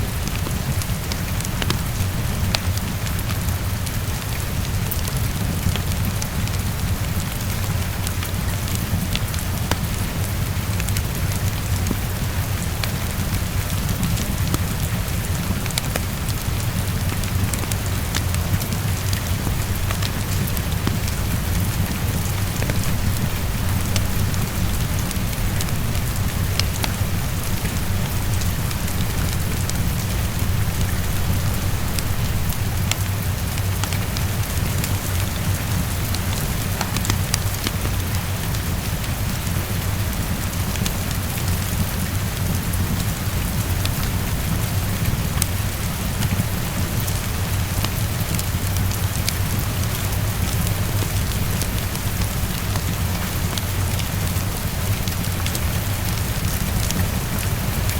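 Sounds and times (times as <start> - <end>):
heavy rain on a window: 0.0 - 57.9
raindrop ticks: 0.0 - 57.9.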